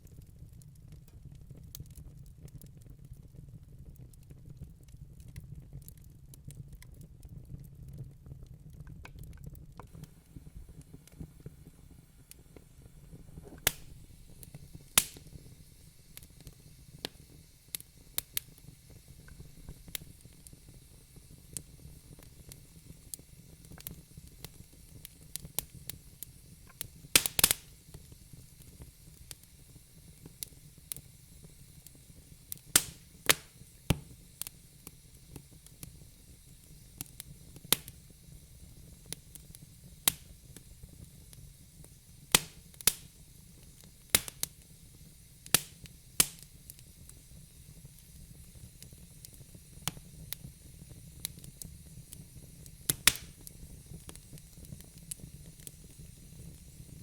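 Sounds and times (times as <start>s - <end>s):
low rumble of fire: 0.0s - 57.0s
wood fire crackling and popping: 0.0s - 57.0s.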